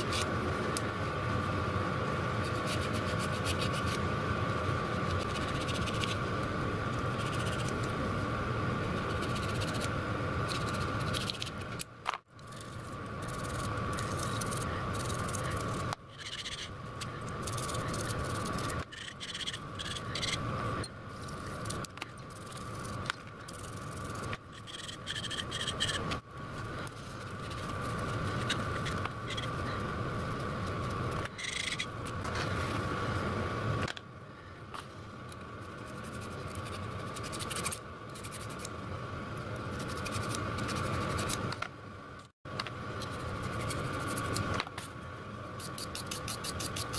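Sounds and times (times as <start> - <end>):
high hum: 0.0 - 46.9.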